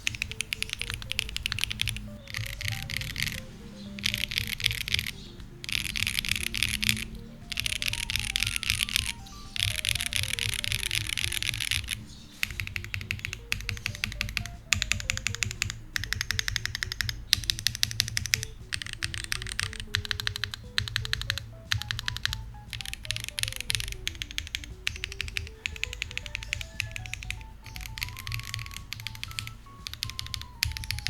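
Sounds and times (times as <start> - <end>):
background music: 0.0 - 31.0
mechanical keyboard typing: 0.0 - 31.0.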